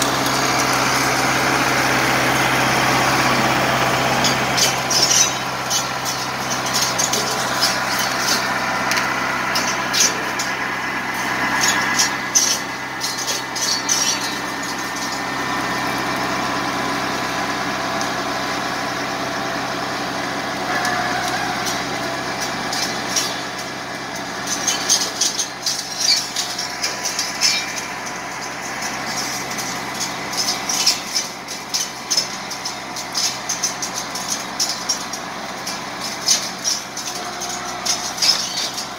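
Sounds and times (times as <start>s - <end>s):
saw blades cutting branches: 0.0s - 16.3s, 20.7s - 38.9s
tractor diesel engine running: 0.0s - 38.9s.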